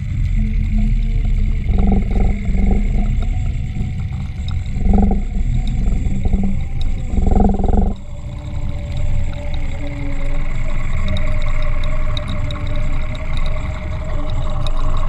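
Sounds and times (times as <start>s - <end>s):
underwater rumble: 0.0s - 15.0s.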